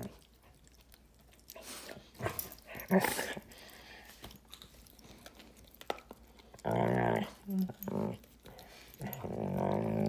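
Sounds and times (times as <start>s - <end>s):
dog chewing on a bone: 0.0s - 10.0s.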